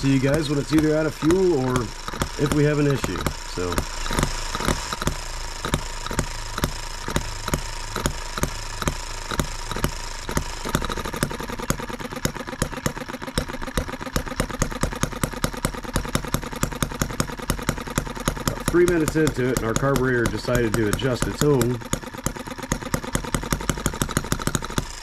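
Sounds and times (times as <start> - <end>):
single-cylinder engine popping: 0.0 - 25.0.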